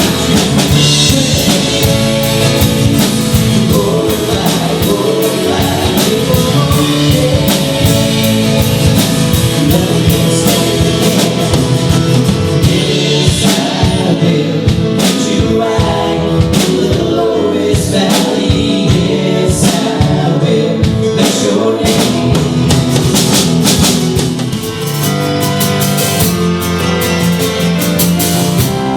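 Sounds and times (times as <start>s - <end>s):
gospel music with singing: 0.0s - 28.9s.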